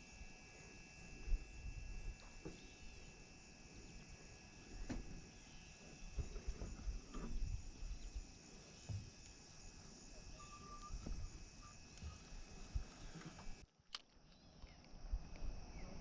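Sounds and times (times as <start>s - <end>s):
high-pitched insect chorus: 0.0s - 13.6s, 14.3s - 16.0s.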